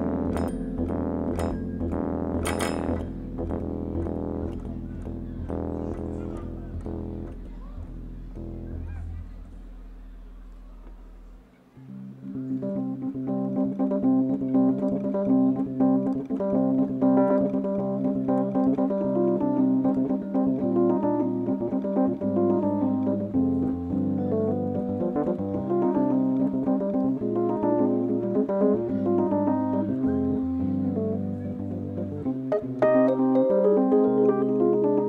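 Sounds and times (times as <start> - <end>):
electric piano chords and bass line: 0.0 - 35.0.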